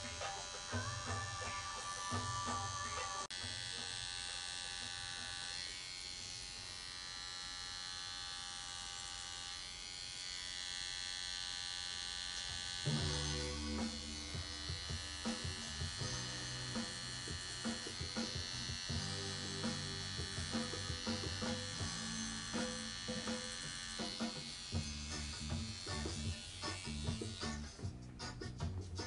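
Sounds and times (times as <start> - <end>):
tattoo machine buzzing: 0.0 - 27.8.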